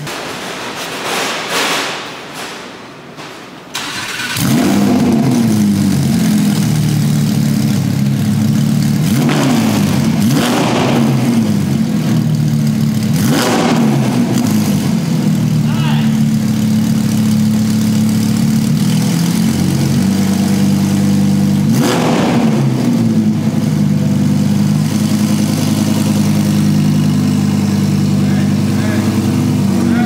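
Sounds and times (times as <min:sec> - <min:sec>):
car engine starting and idling: 0:03.1 - 0:30.0.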